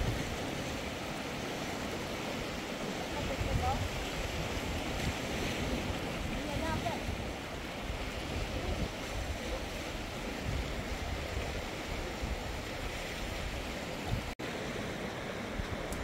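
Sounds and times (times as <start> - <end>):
wind buffeting microphone: 0.0 - 14.4
fast-flowing river rushing: 0.0 - 16.0.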